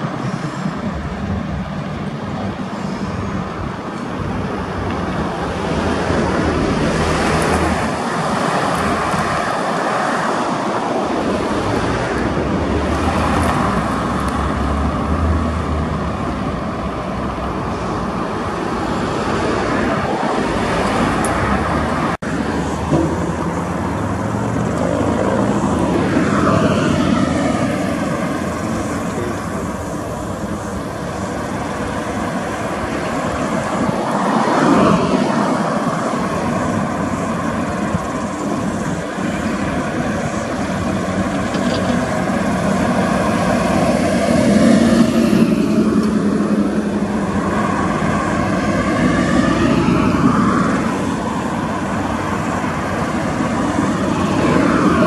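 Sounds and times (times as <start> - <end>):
cars and trucks passing: 0.0 - 55.0.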